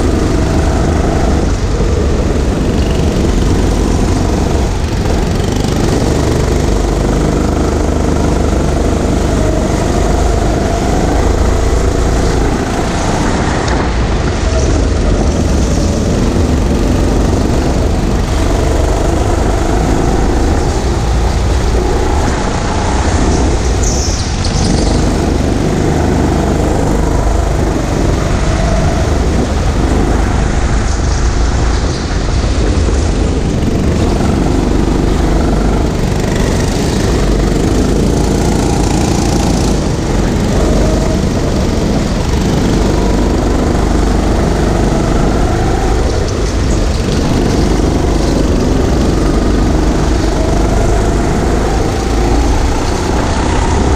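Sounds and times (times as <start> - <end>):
go-kart motor: 0.0 - 53.9
microphone rumble: 0.0 - 53.9.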